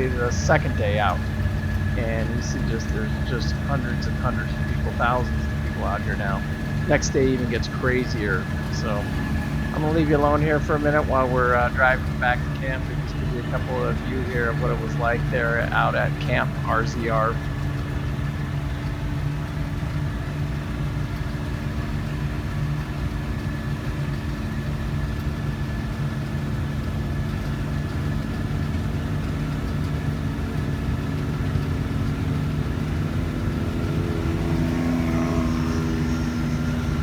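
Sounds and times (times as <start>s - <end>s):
utility vehicle engine droning: 0.0s - 37.0s.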